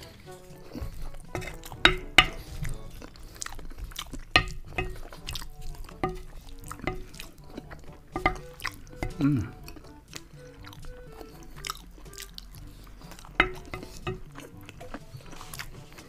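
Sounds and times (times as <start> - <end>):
wooden spoon scraping plate: 0.0 - 9.8, 12.6 - 16.0
wet chewing: 0.0 - 16.0.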